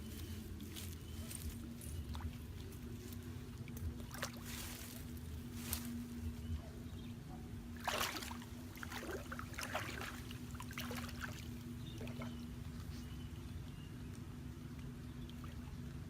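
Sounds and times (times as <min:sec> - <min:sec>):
steady low hum: 0:00.0 - 0:16.0
water splashing and trickling: 0:00.4 - 0:05.9, 0:07.7 - 0:16.0.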